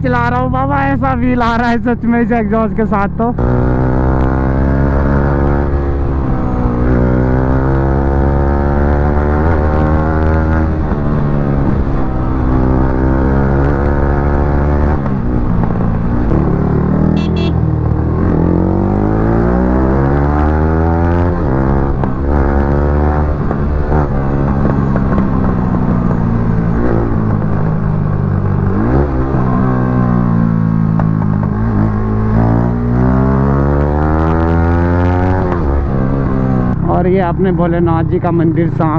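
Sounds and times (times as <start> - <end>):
motorcycle engine revving: 3.2 - 36.9.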